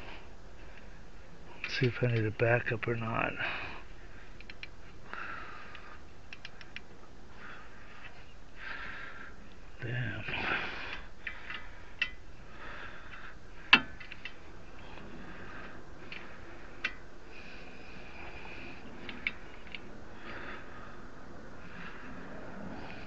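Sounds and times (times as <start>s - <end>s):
faint steady background: 0.0s - 23.0s.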